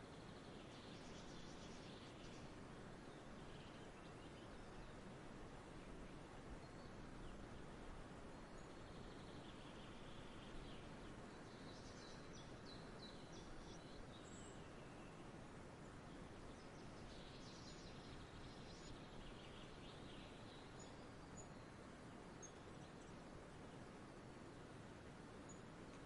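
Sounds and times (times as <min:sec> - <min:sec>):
low outdoor background hum: 0:00.0 - 0:26.0
songbirds chirping: 0:00.0 - 0:26.0.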